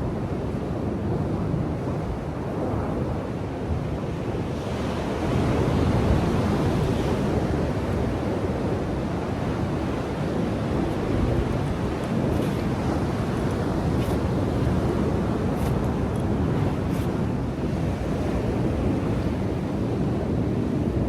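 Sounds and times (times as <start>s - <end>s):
ocean surf on beach: 0.0s - 21.0s
wind buffeting microphone: 0.0s - 21.0s.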